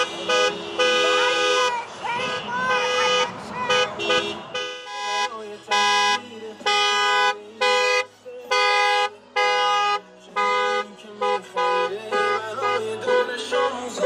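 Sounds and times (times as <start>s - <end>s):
car horn honking: 0.0s - 14.0s.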